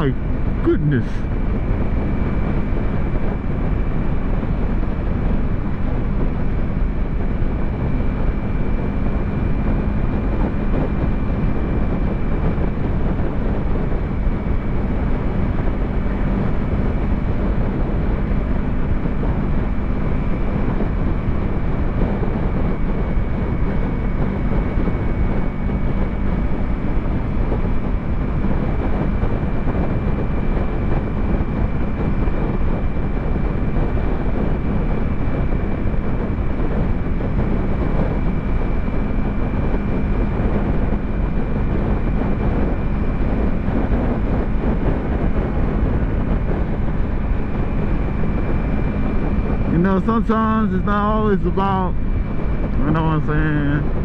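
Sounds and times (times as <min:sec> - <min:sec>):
motorcycle engine cruising: 0:00.0 - 0:54.0
wind on microphone: 0:00.0 - 0:54.0.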